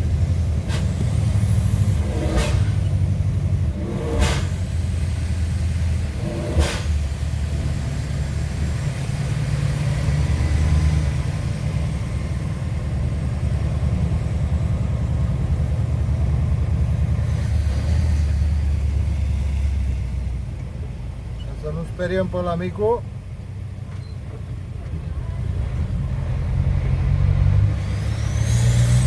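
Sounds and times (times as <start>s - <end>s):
diesel truck engine rumble: 0.0s - 29.0s.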